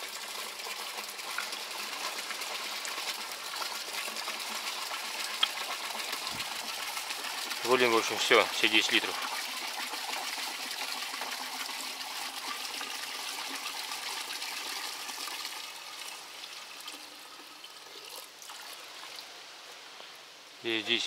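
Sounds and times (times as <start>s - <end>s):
petrol pouring into bucket: 0.0s - 19.2s.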